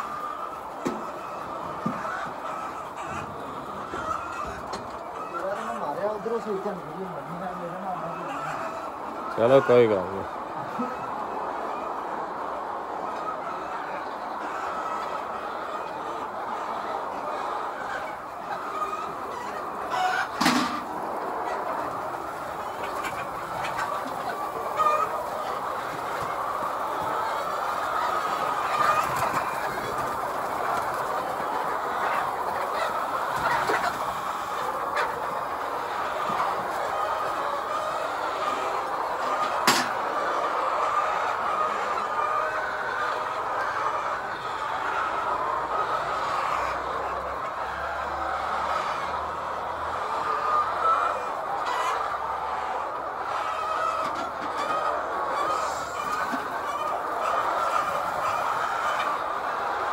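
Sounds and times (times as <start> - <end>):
flock of hens clucking: 0.0 - 59.9
loud hen calls: 0.0 - 59.9.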